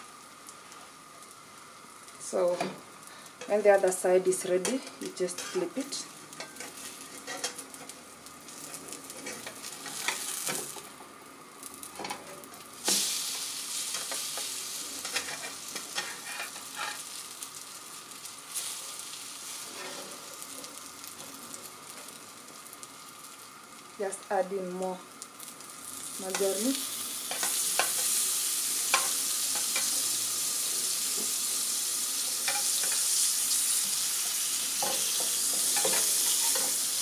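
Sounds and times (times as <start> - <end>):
bread sizzling in a frying pan: 0.0 - 37.0.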